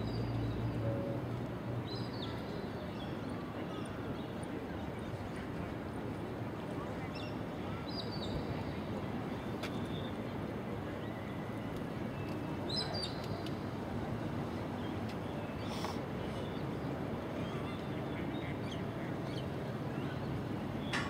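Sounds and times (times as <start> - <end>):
steady noisy background: 0.6 - 21.0.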